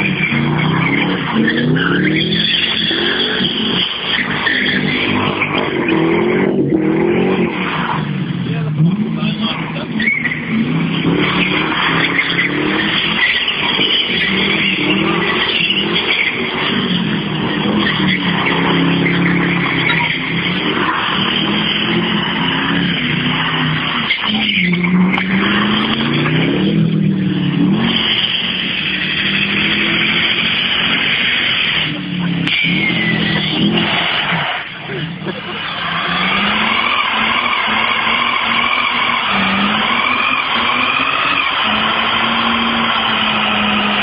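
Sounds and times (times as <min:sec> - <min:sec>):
car engine revving: 0:00.0 - 0:44.0
tyres screeching: 0:00.0 - 0:44.0.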